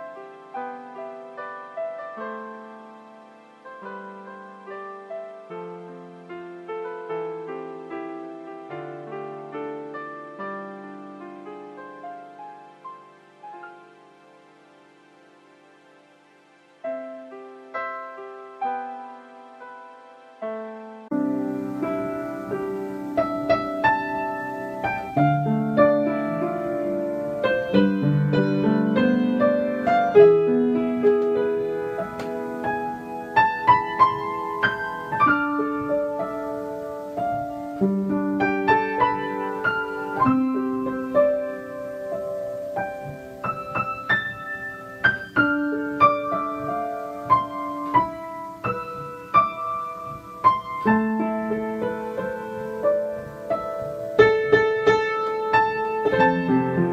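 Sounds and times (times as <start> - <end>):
slow piano music: 0.0 - 56.9.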